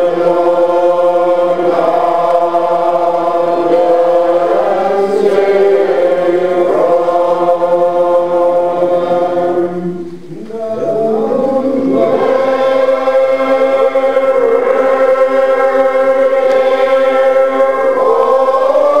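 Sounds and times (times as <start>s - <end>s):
congregation singing a hymn: 0.0s - 19.0s.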